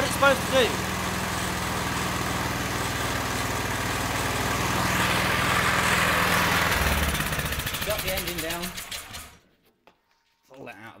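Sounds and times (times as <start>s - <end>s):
small petrol engine running: 0.0s - 9.4s.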